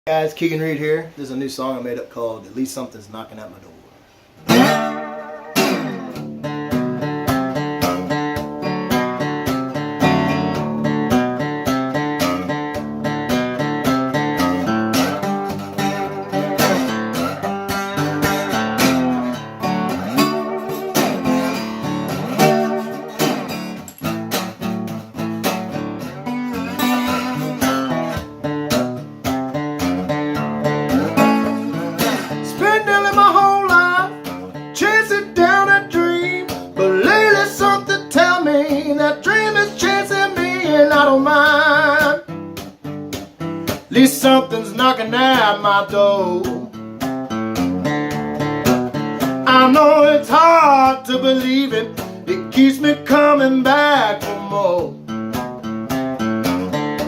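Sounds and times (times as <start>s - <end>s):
guitar strumming chords: 4.4s - 57.0s.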